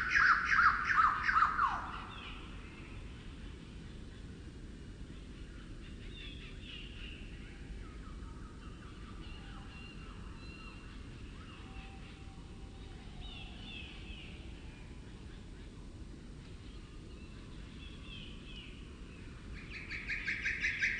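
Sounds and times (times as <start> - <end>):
slowed down birdsong: 0.0 - 4.5, 5.1 - 20.9
low background noise: 0.0 - 20.9.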